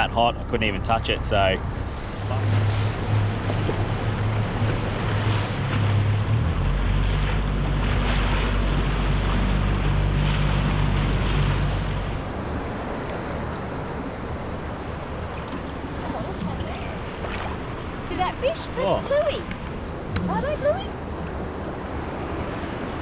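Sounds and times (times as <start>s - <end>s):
outboard motor running: 0.0s - 23.0s
water washing past hull: 0.0s - 23.0s.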